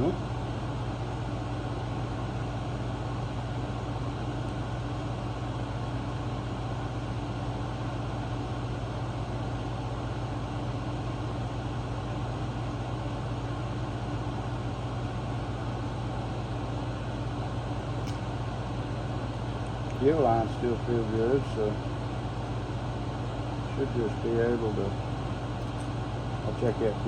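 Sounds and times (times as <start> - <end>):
air conditioner and fan hum: 0.0 - 27.0.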